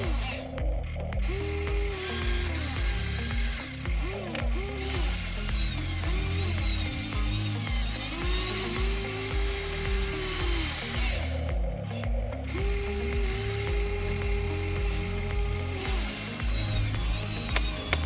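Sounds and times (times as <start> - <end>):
background music with bass beat: 0.0 - 18.0
toy excavator motors whining: 0.0 - 18.0.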